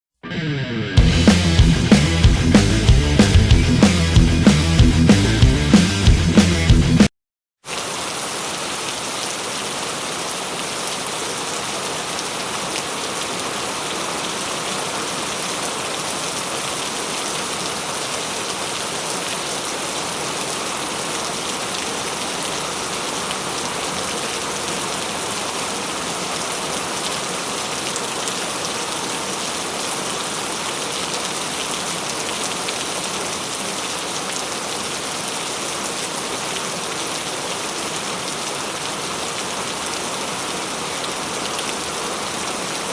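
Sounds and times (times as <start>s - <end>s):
heavy rain falling: 7.7s - 42.9s.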